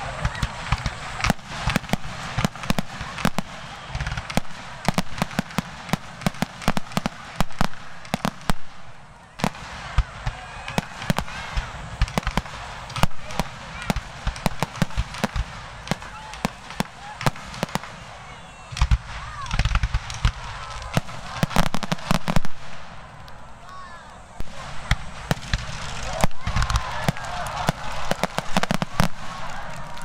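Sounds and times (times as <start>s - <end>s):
fireworks launching and bursting: 0.0s - 30.0s.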